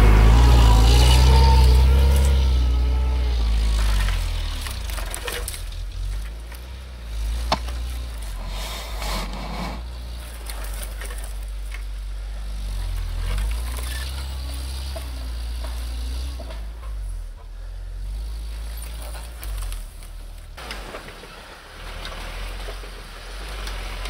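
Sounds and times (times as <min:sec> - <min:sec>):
car engine at low revs: 0:00.0 - 0:24.0.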